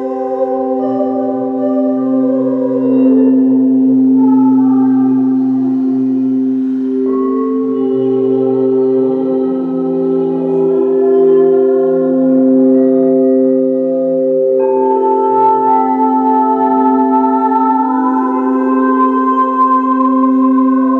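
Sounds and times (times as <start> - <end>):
singing bowls ringing: 0.0 - 20.9.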